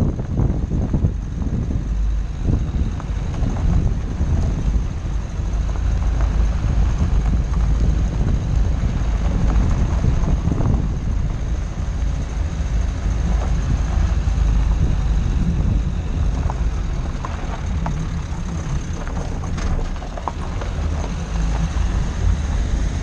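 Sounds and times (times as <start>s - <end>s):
gravel crunching under wheels: 0.0s - 23.0s
tyres rumbling on dirt track: 0.0s - 23.0s
wind on microphone: 0.0s - 23.0s.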